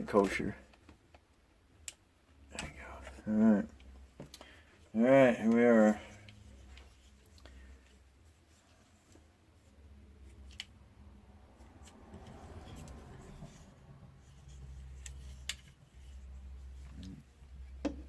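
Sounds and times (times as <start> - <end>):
steady low hum: 2.2 - 18.0.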